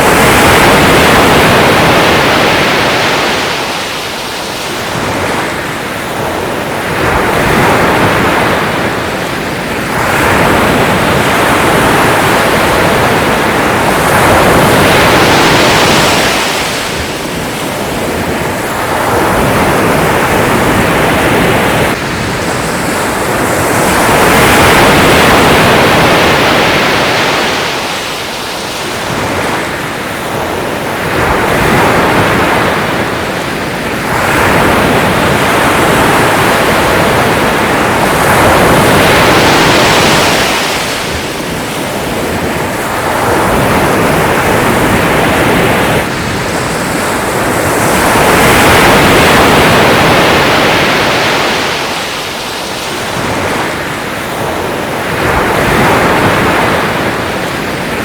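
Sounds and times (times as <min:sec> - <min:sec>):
sea waves breaking: 0:00.0 - 0:58.0.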